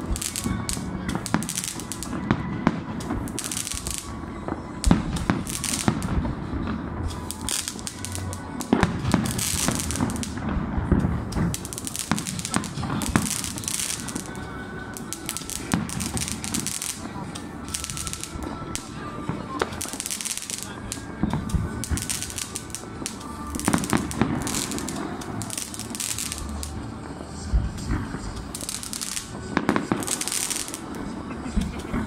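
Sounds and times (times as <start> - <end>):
fireworks bangs: 0.0 - 32.0
fireworks crackling and hissing: 0.0 - 32.0.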